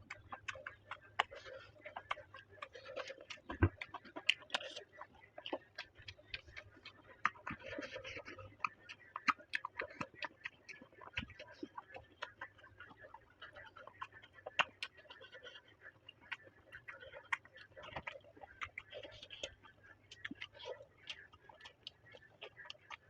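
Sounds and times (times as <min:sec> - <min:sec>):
chewing food: 0:00.0 - 0:23.0.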